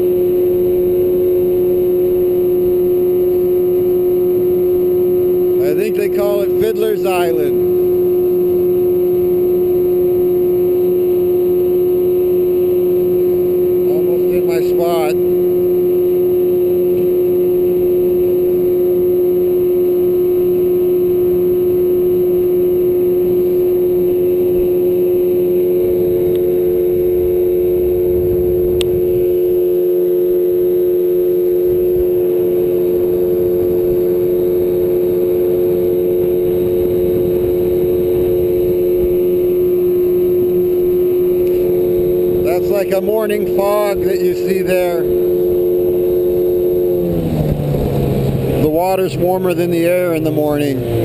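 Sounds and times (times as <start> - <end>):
boat motor droning: 0.0 - 51.0
higher tone: 0.0 - 51.0.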